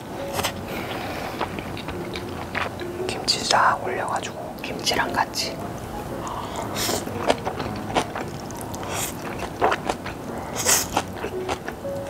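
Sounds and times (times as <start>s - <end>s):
chewing noodles: 0.2s - 3.6s, 5.7s - 12.0s.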